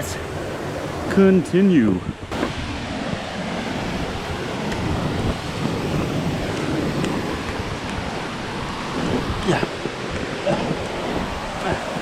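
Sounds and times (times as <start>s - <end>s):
rushing water: 0.0s - 12.0s
wind buffeting microphone: 0.0s - 12.0s.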